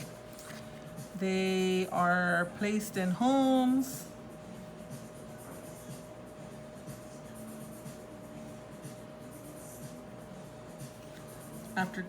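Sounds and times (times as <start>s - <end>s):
thin steady hum: 0.0s - 12.0s.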